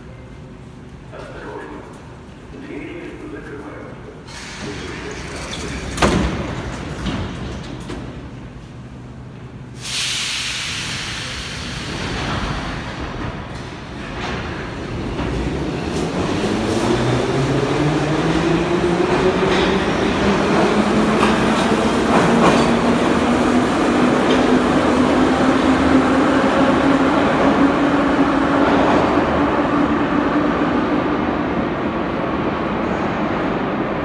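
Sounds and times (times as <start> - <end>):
wheels rumbling on rail: 0.0 - 9.9, 10.6 - 34.0.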